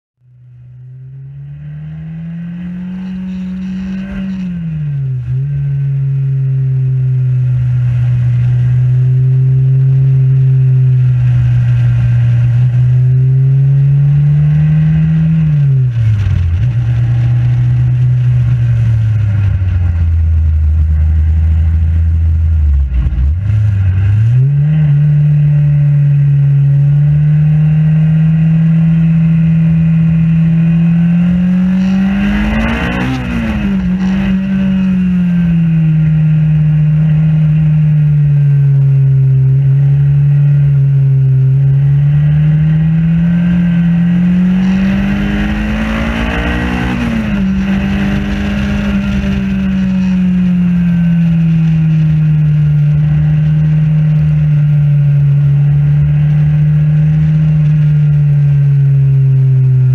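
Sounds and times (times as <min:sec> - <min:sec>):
racing car engine: 0:00.2 - 0:59.9.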